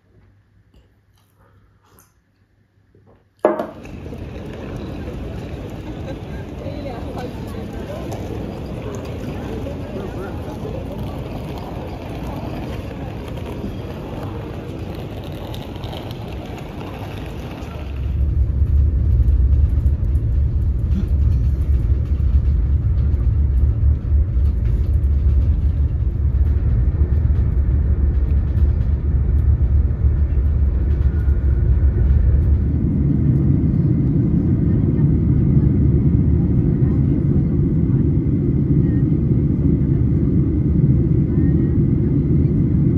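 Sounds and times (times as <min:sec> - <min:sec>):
busy station hall ambience: 0:00.0 - 0:42.9
passenger train rumbling: 0:03.6 - 0:42.9.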